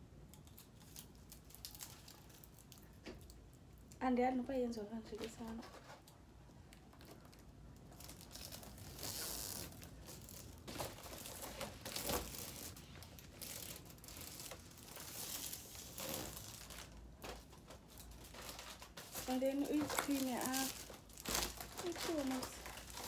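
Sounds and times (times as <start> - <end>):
foil balloon crinkling: 0.4 - 3.5, 5.1 - 23.0.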